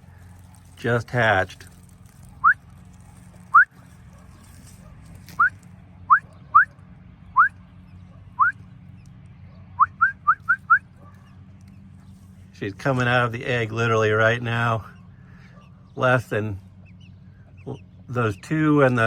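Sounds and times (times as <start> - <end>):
nestlings chirping: 0.0 - 6.7, 7.3 - 19.0.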